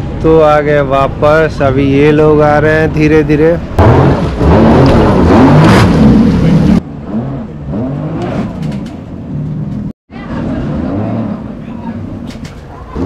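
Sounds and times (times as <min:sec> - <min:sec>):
jet ski engines revving: 0:00.0 - 0:13.0.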